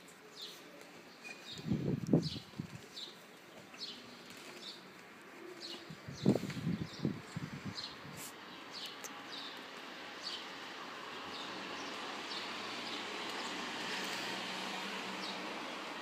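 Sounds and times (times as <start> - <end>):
small birds chirping: 0.3 - 14.3.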